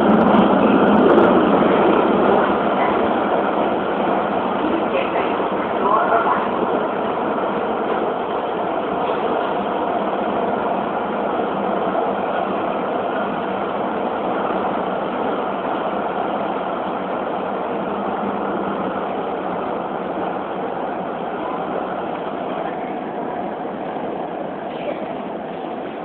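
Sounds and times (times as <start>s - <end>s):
subway train running: 0.0s - 26.0s.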